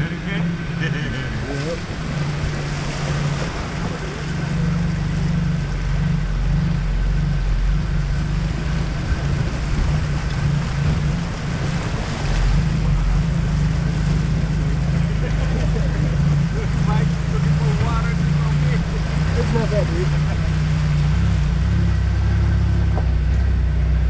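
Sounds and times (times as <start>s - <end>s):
low engine drone: 0.0s - 24.0s
wind buffeting microphone: 0.0s - 24.0s.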